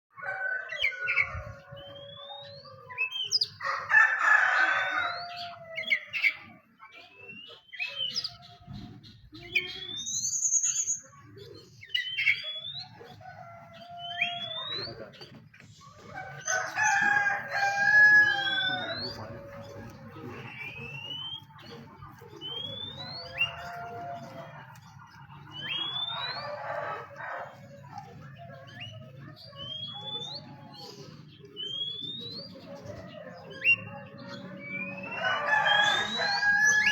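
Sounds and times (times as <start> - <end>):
songbird whistling song: 0.8 - 3.8, 4.9 - 15.4, 17.5 - 24.4, 25.2 - 27.6, 28.2 - 36.9.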